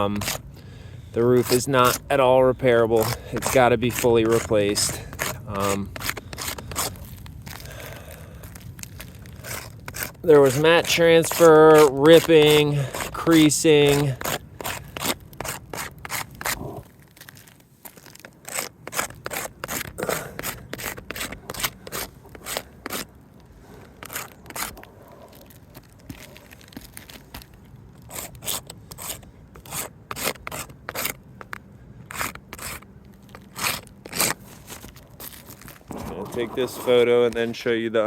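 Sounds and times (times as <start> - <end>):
scraping on roof shingles: 0.0 - 38.0.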